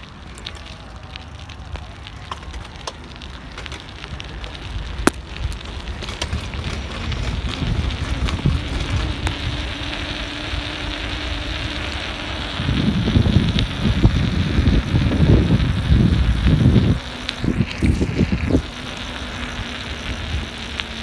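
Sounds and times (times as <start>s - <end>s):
bike rattling clicks: 0.0s - 21.0s
tyre rumble on rough asphalt: 0.0s - 21.0s
wind buffeting camera: 0.0s - 21.0s.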